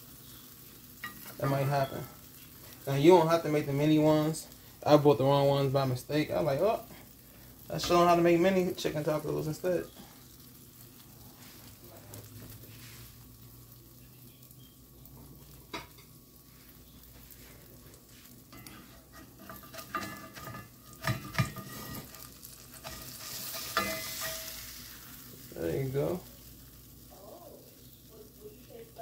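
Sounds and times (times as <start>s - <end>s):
food sizzling in a skillet: 0.0s - 29.0s.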